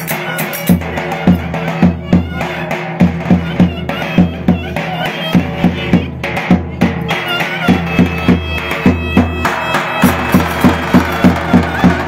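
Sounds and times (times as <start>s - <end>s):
bass drum beating: 0.7s - 12.0s.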